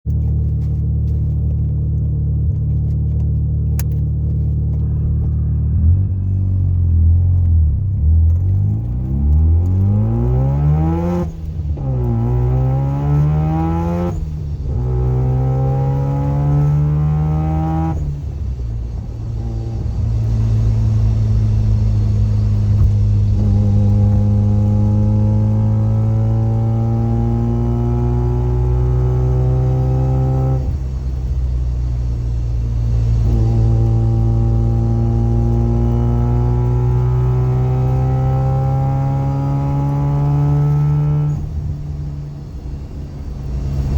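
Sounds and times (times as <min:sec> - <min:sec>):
rotary engine accelerating: 0:04.7 - 0:43.9.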